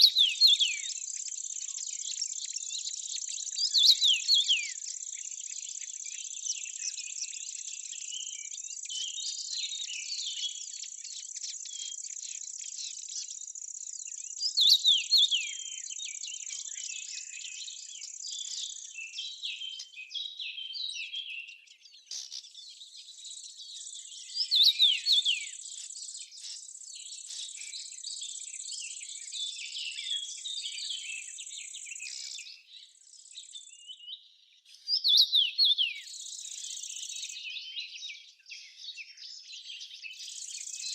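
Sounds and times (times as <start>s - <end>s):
loud bird song: 0.0s - 40.9s
small birds chirping: 0.0s - 40.9s.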